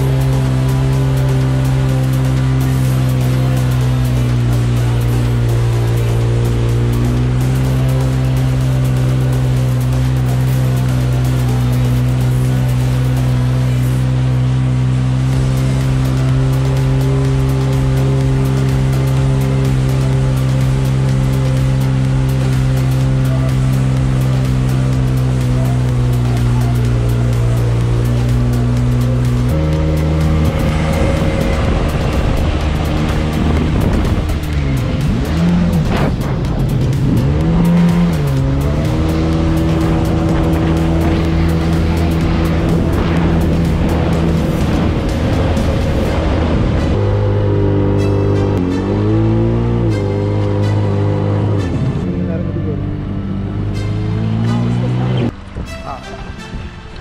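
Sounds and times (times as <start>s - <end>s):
water rushing off hull: 0.0s - 47.7s
jet ski engine at high throttle: 0.0s - 55.4s.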